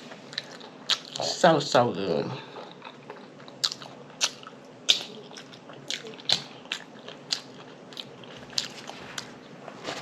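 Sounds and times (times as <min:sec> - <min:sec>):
person chewing food: 0:00.0 - 0:01.4, 0:02.5 - 0:10.0.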